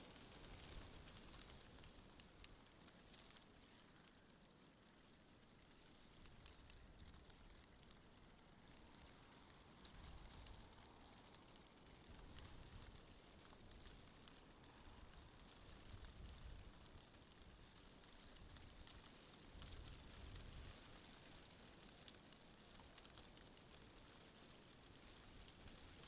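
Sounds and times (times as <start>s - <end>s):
soft wind hiss: 0.0s - 26.0s.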